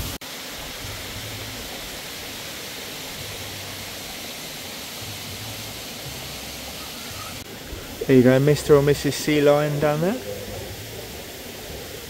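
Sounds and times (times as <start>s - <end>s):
outdoor ambience hiss: 0.0s - 12.0s.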